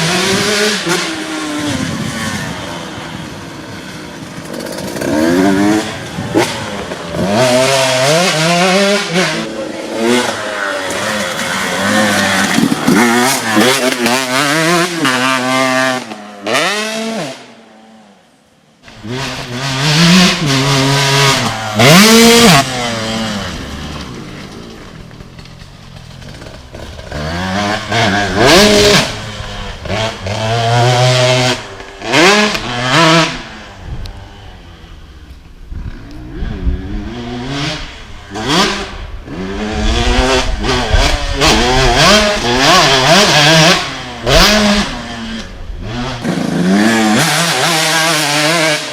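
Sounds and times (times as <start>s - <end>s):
motocross engine revving: 0.0s - 18.0s, 18.8s - 48.9s.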